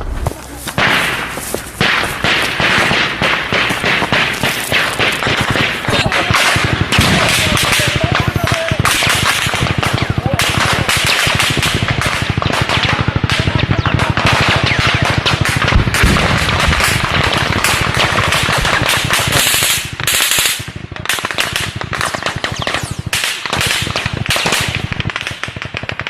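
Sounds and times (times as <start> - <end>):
rapid automatic gunfire: 0.8 - 26.0.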